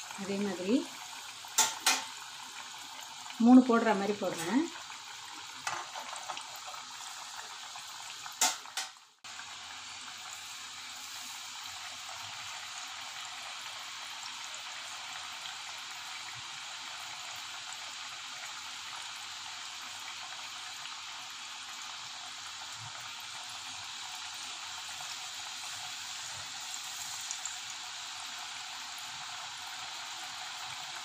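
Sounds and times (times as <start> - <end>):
oil sizzling and bubbling: 0.0 - 31.0.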